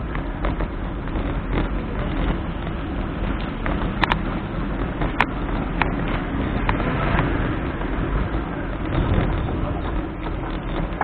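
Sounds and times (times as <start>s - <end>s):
bike clicks and rattles: 0.0s - 11.0s
road rumble: 0.0s - 11.0s
wind on microphone: 0.0s - 11.0s.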